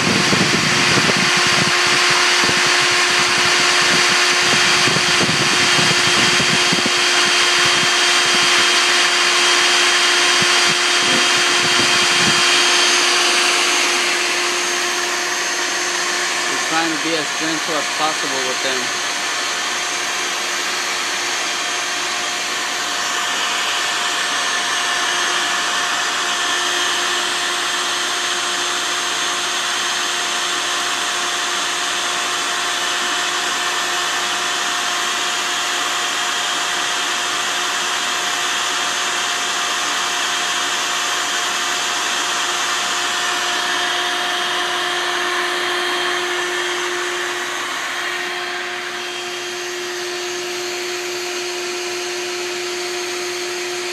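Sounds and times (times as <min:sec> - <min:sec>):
vacuum motor humming: 0:00.0 - 0:53.9.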